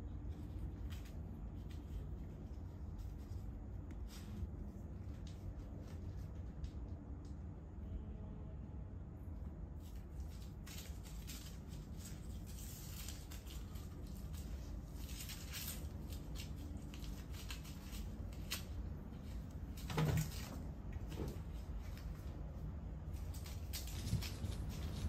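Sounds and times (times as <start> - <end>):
paper crackling and rustling: 0.0 - 7.1, 9.7 - 25.0.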